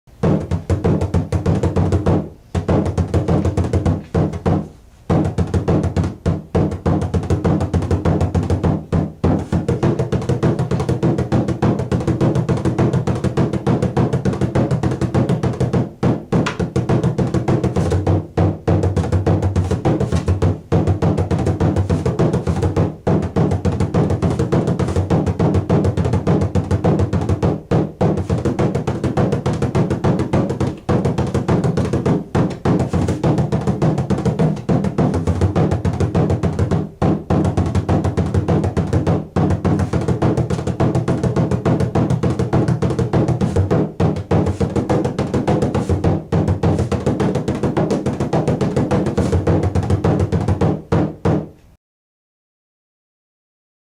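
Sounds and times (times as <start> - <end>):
frame drum played with a tipper: 0.2 - 51.5.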